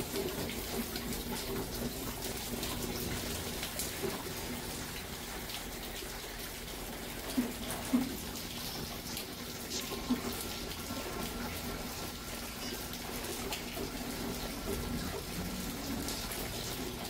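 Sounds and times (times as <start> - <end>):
rain falling and splashing: 0.0 - 17.0
running water rushing: 0.0 - 17.0
water dripping: 0.0 - 17.0.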